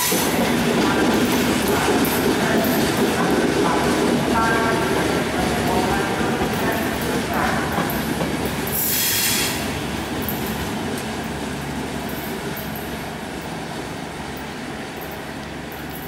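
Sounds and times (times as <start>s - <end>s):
train coaches rumbling over rails: 0.0s - 16.0s.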